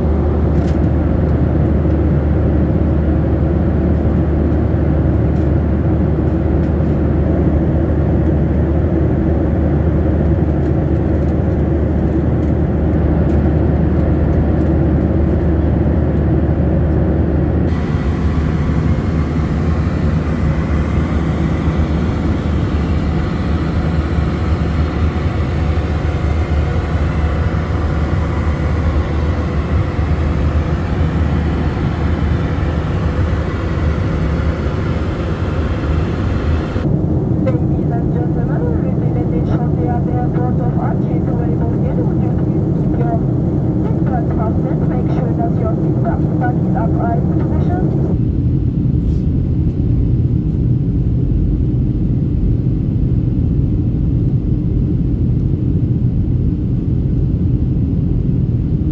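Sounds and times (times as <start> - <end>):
airliner cabin engine drone: 0.0 - 58.9.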